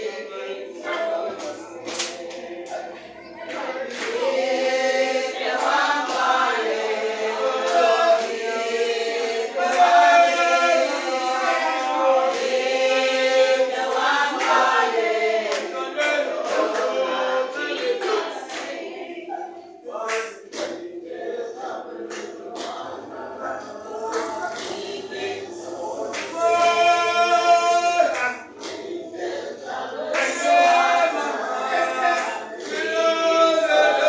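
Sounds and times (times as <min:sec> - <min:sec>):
congregation singing: 0:00.0 - 0:34.0.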